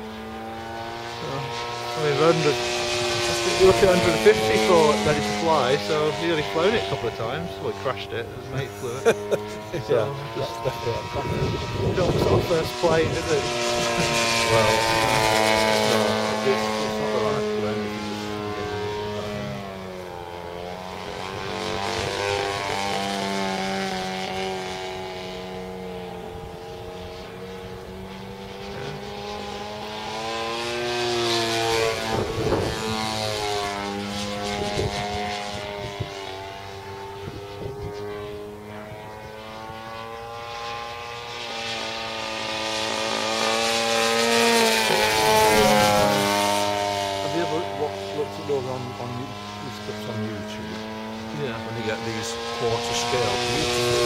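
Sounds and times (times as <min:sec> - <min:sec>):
model aeroplane propeller drone: 0:00.0 - 0:54.0.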